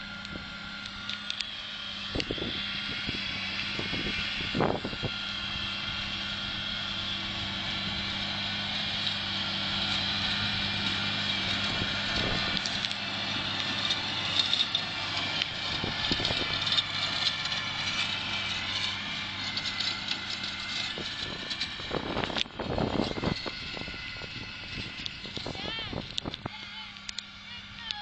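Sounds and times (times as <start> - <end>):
tractor diesel engine passing: 0.0 - 28.0.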